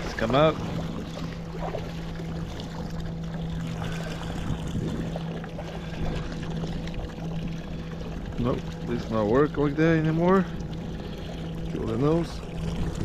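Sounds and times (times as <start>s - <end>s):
boat motor humming: 0.0s - 13.0s
water splashing against hull: 0.0s - 13.0s.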